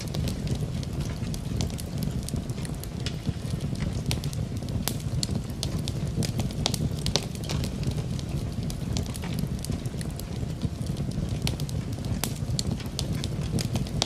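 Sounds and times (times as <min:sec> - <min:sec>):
rain: 0:00.0 - 0:14.0
wood fire crackling: 0:00.0 - 0:14.0.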